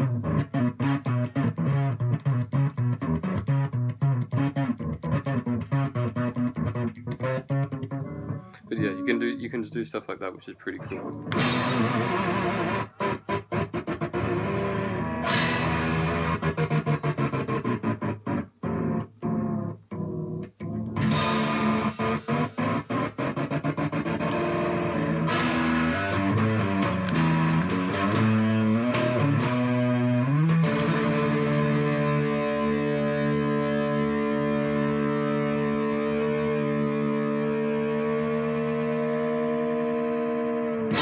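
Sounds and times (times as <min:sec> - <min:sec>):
distorted electric guitar: 0:00.0 - 0:09.9, 0:10.7 - 0:41.0.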